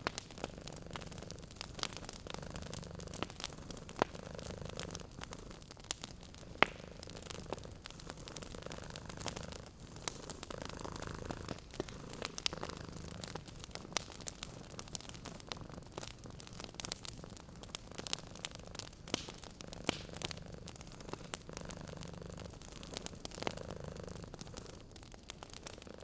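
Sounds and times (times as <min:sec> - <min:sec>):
cat purring: 0:00.0 - 0:26.0
wood fire crackling and popping: 0:00.0 - 0:26.0.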